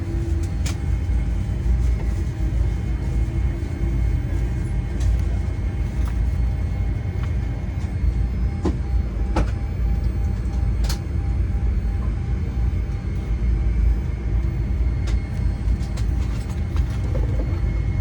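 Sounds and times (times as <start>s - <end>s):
airliner cabin rumble: 0.0s - 18.0s
faint hum: 0.0s - 18.0s.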